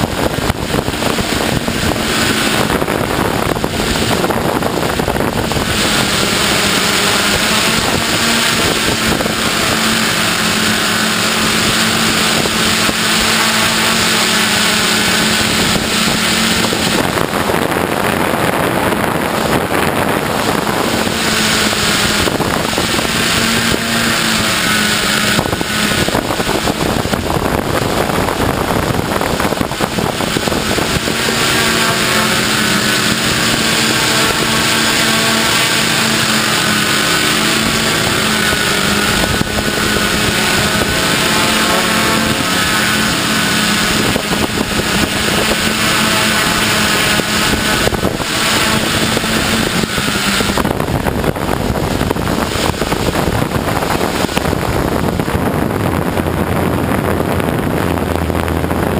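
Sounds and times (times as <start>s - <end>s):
drone propellers buzzing: 0.0s - 58.9s.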